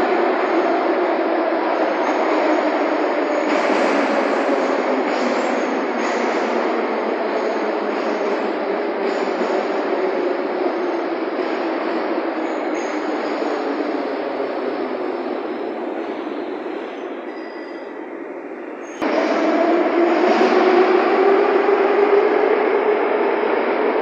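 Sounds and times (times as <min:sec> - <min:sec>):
metro train rumble: 0:00.0 - 0:24.0.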